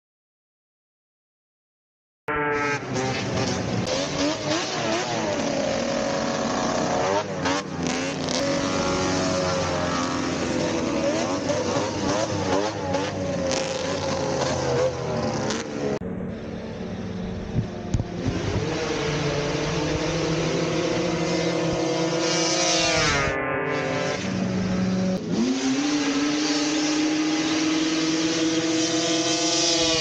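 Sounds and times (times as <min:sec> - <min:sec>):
snowmobile engines droning: 0:02.3 - 0:30.0.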